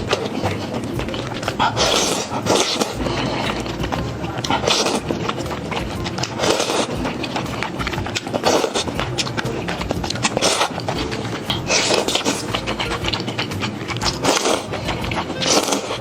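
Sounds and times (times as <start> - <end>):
lip-smacking clicks: 0.0 - 16.0
slurping and chewing noodles: 0.0 - 16.0.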